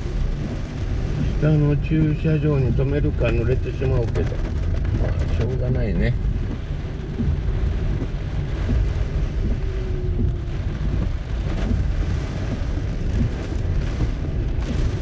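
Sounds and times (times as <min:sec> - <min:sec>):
rain hissing on bodywork: 0:00.0 - 0:15.0
wind buffeting a van: 0:00.0 - 0:15.0.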